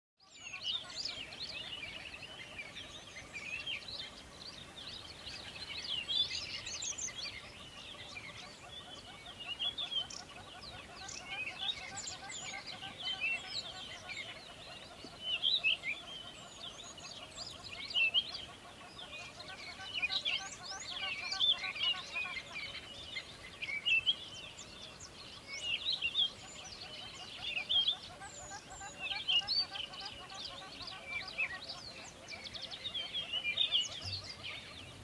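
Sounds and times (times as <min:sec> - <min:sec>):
birds chirping and twittering: 0:00.2 - 0:35.0
low bird chatter: 0:00.2 - 0:35.0.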